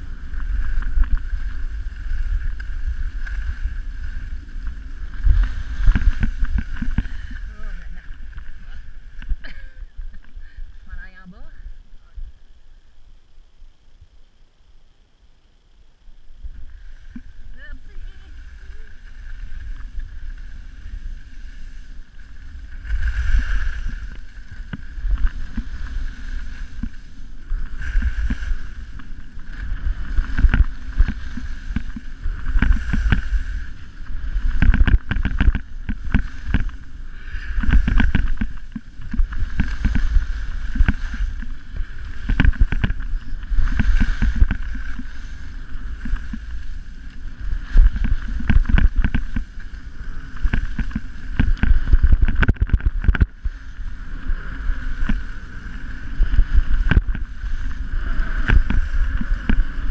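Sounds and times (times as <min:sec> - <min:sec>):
skis hissing on packed snow: 0:00.0 - 0:11.2, 0:16.4 - 0:52.2, 0:53.4 - 0:59.9
wind rumble on microphone: 0:00.0 - 0:14.4, 0:15.6 - 0:59.9.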